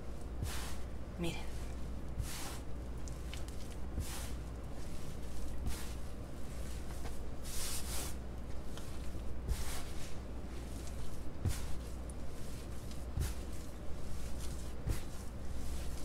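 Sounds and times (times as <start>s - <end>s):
hands kneading dough: 0.0s - 16.0s
low steady hum: 0.0s - 16.0s.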